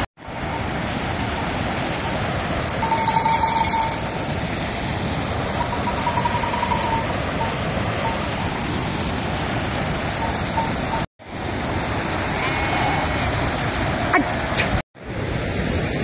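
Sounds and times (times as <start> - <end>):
river and waterfall rushing: 0.0 - 16.0.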